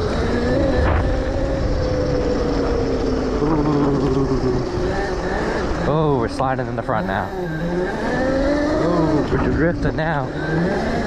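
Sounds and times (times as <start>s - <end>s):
wind rumble on microphone: 0.0s - 7.4s, 8.2s - 11.0s
electric motor whining: 0.0s - 11.0s.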